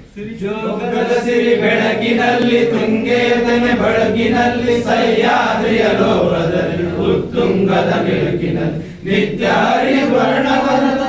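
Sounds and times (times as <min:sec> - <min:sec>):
men singing as a choir: 0:00.4 - 0:11.0.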